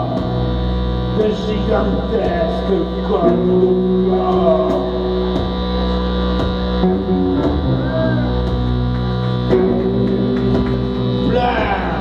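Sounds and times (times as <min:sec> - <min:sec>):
live band droning chord: 0:00.0 - 0:12.0.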